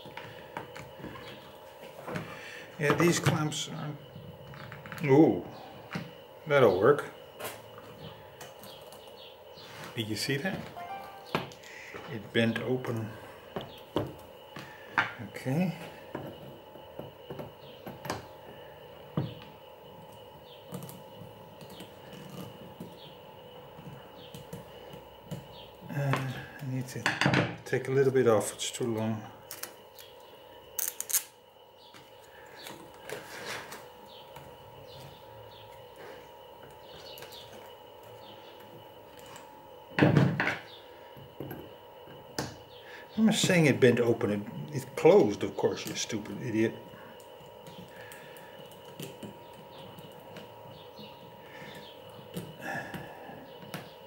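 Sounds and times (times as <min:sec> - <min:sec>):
faint high hum: 0:00.0 - 0:54.0.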